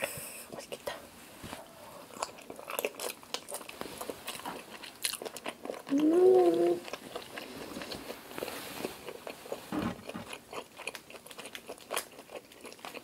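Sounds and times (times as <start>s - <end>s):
wet chewing clicks: 2.1s - 13.0s.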